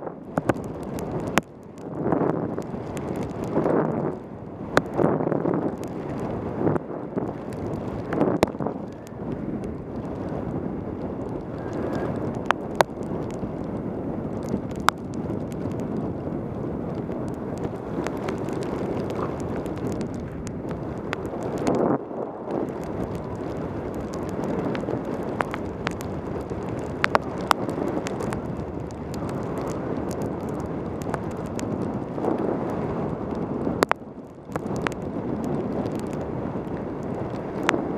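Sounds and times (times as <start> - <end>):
pouring rain: 0.0 - 37.9
wind rushing over microphone: 0.0 - 37.9.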